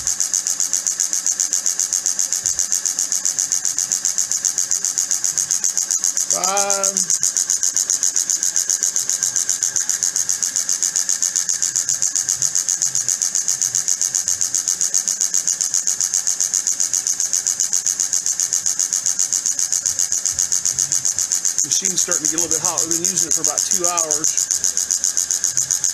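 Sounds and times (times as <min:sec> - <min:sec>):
pulsing hissing scrape: 0:00.0 - 0:25.9.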